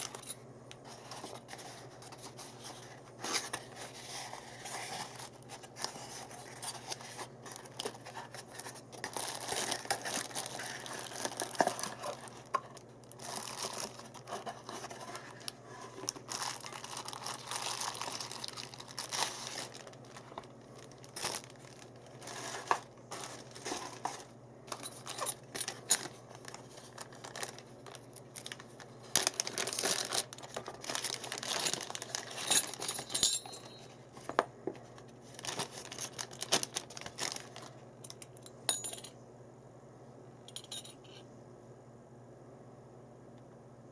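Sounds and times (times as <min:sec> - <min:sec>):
plastic and paper crinkling: 0:00.0 - 0:37.8.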